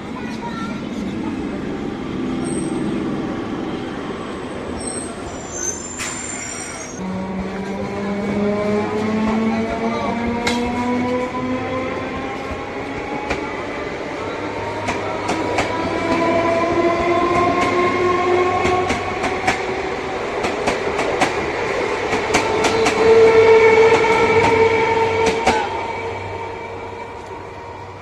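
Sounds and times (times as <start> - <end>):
train whine: 0.0 - 28.0.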